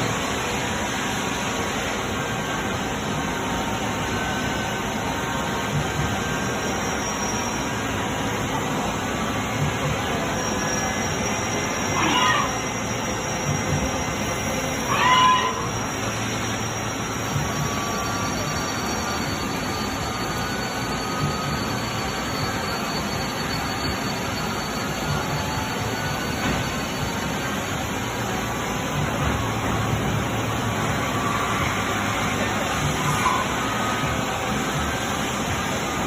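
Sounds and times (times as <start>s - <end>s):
lathe running: 0.0s - 36.0s.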